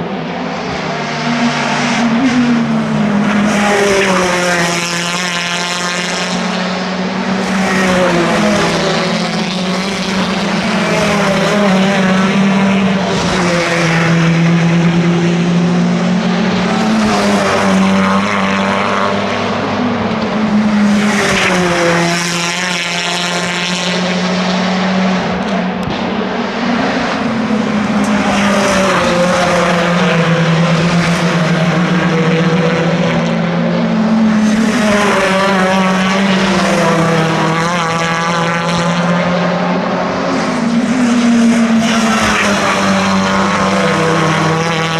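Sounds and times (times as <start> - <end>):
racing cars passing: 0.0 - 44.9.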